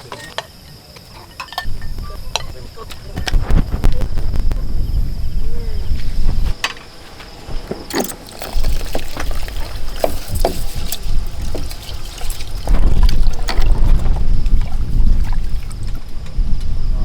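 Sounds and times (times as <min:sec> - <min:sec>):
wind buffeting microphone: 0:01.6 - 0:07.9, 0:08.6 - 0:17.0.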